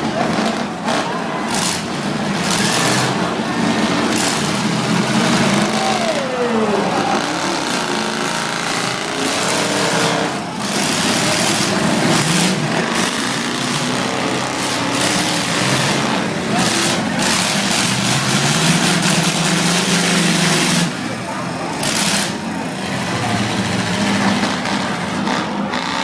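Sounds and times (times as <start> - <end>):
car engines revving hard: 0.0 - 26.0.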